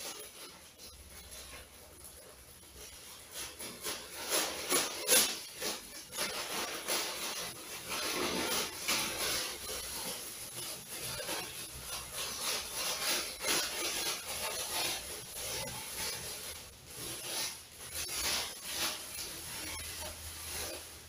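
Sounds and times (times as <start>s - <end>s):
person chewing crispy food: 0.0s - 21.0s.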